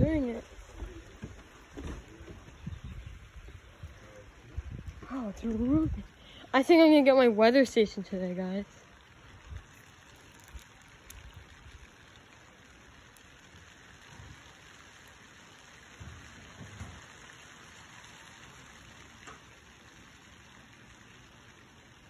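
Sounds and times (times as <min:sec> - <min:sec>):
light rain on pool and stone: 0:00.0 - 0:22.0.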